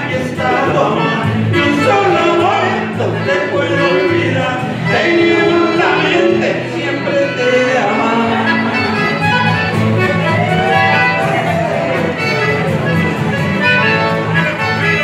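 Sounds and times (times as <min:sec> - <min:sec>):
melody with sliding notes: 0:00.0 - 0:15.0
repeating bass: 0:00.0 - 0:15.0.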